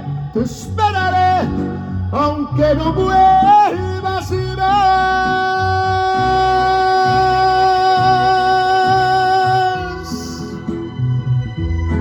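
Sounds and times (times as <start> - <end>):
guitar and bass: 0.0 - 12.0.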